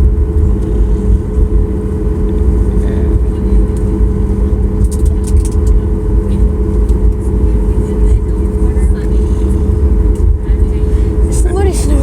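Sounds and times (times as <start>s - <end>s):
constant hum: 0.0s - 12.0s
jet engine rumble: 0.0s - 12.0s.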